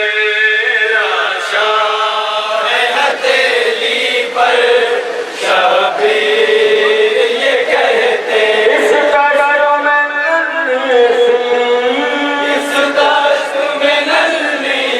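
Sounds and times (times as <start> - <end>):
man chanting a lament: 0.0 - 14.9.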